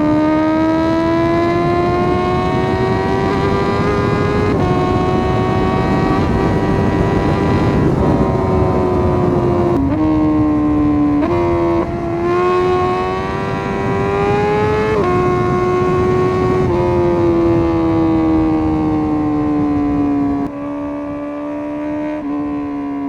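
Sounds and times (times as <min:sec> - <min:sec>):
wind rushing: 0:00.0 - 0:21.8
motorcycle engine running hard: 0:00.0 - 0:23.0.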